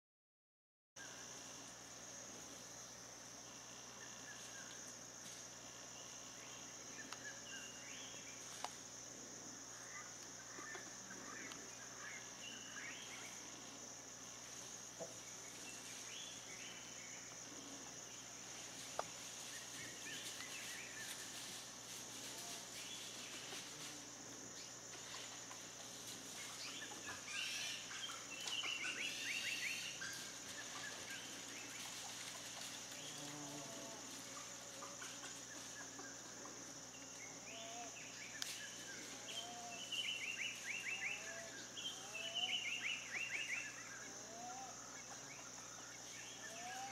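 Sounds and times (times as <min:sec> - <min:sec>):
crickets chirping: 0:01.0 - 0:46.9.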